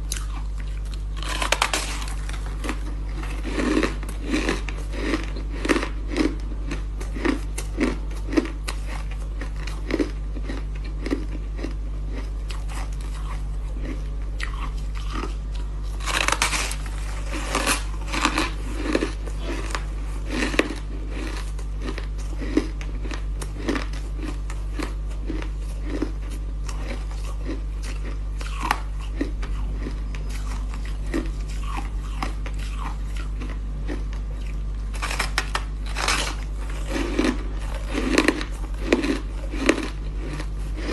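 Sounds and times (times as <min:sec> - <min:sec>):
ice being chewed: 0:00.0 - 0:40.9
steady low hum: 0:00.0 - 0:40.9.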